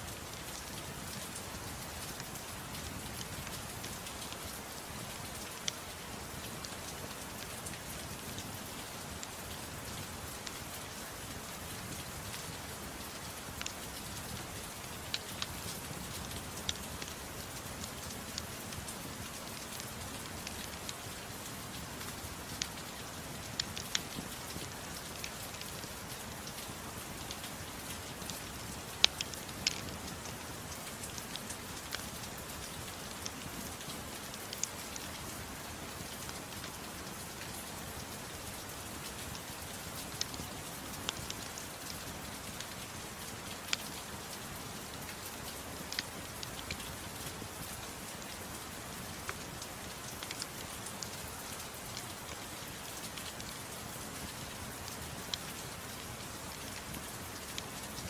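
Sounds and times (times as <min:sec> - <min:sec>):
rain falling: 0:00.0 - 0:58.0
fireplace crackling and popping: 0:00.2 - 0:58.0.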